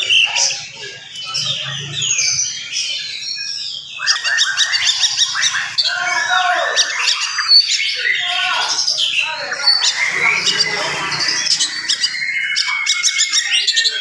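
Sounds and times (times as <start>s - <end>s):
bird singing whistles and chirps: 0.0s - 14.0s.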